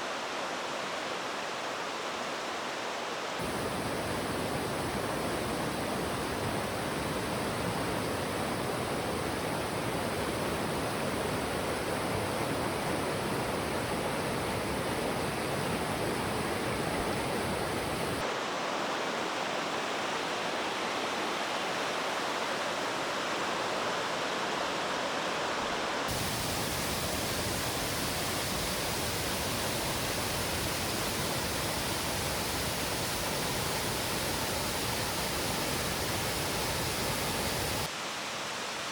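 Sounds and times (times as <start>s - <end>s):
stream rapids rushing: 3.4s - 38.9s.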